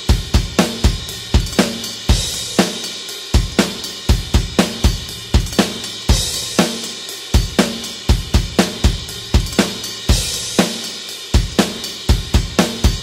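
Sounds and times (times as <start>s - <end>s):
rock drum kit beat: 0.0s - 13.0s.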